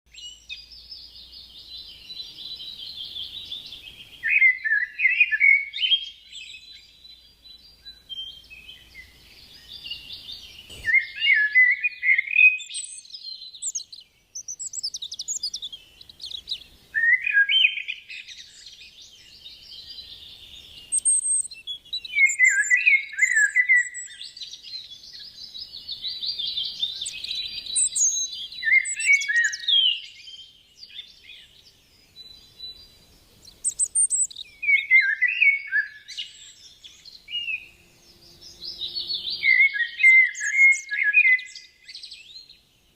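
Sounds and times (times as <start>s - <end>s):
songbirds chirping: 0.1s - 42.9s.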